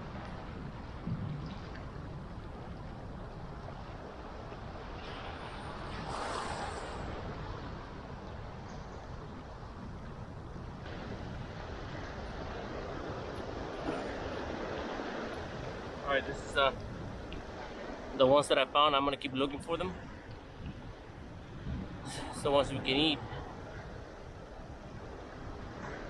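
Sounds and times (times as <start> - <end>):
wind on microphone: 0.0 - 18.2, 19.1 - 26.0.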